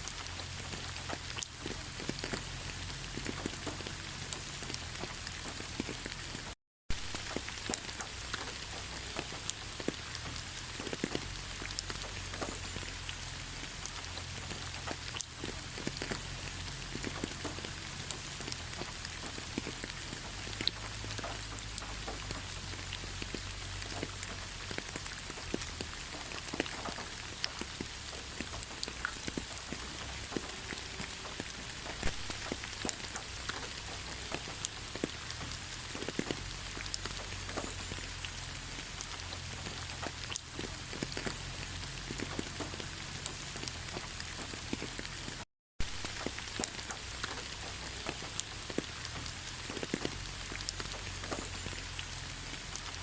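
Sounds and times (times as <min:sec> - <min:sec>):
gentle rain pattering: 0:00.0 - 0:53.0.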